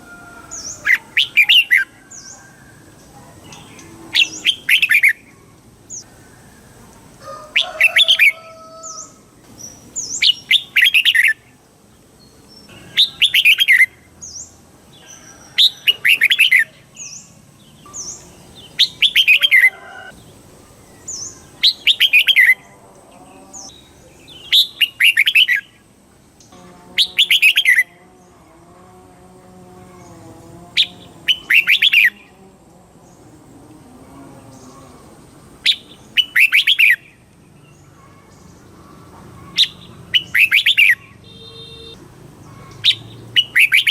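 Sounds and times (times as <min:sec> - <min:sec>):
bulbul singing chirpy song: 0:00.0 - 0:33.5, 0:34.3 - 0:43.9.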